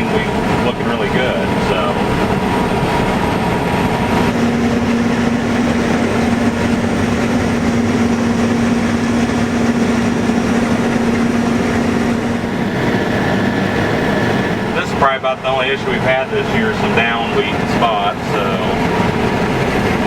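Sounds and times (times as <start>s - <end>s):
combine harvester running: 0.0s - 20.0s
steady low hum: 0.0s - 20.0s.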